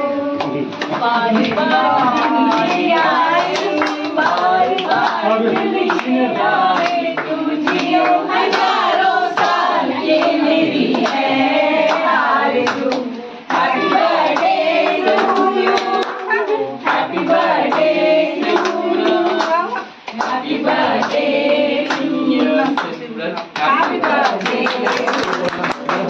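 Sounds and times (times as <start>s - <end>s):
group singing: 0.0s - 26.0s
people clapping in rhythm: 0.0s - 26.0s.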